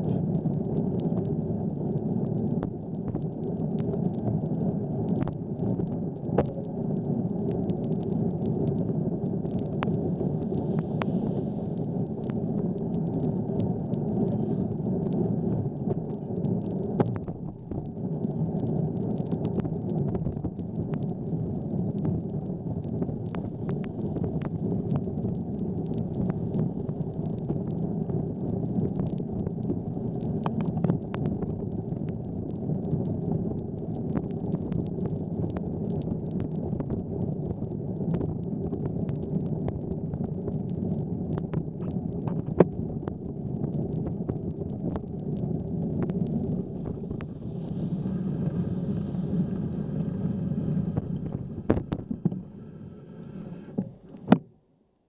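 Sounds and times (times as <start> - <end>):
bicycle tyre and wind rumble: 0.0 - 54.4.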